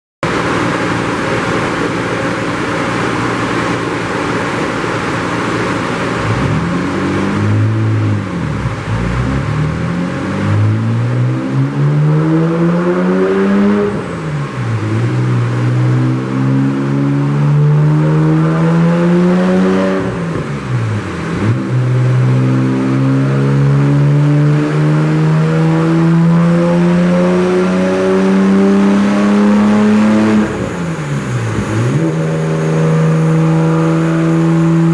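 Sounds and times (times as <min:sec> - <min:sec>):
car engine revving on dyno: 0:00.2 - 0:34.9.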